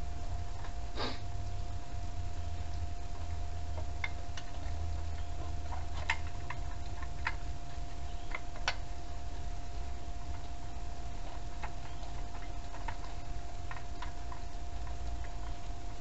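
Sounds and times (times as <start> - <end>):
faint steady whine: 0.0 - 16.0
low hum: 0.0 - 16.0.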